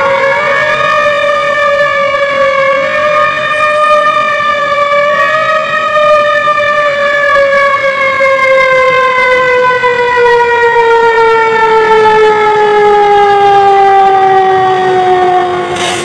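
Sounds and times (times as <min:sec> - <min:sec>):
siren falling in pitch: 0:00.0 - 0:15.8.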